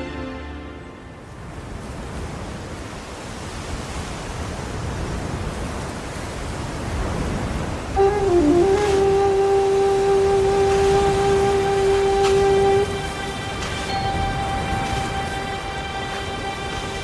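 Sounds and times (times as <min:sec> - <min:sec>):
waves breaking over loudspeaker: 0:00.0 - 0:17.0.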